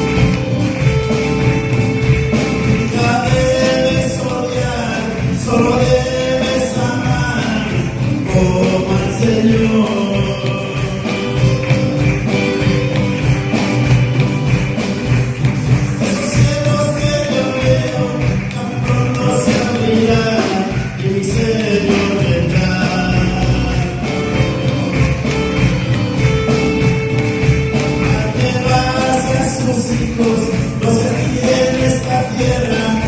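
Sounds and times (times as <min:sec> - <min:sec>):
band playing gospel music: 0:00.0 - 0:33.0
tambourine shaking: 0:00.0 - 0:33.0.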